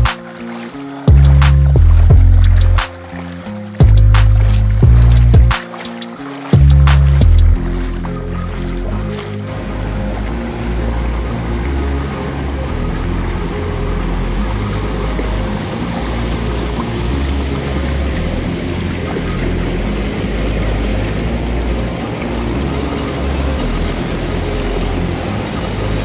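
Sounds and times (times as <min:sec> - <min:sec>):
background music with deep bass: 0:00.0 - 0:26.0.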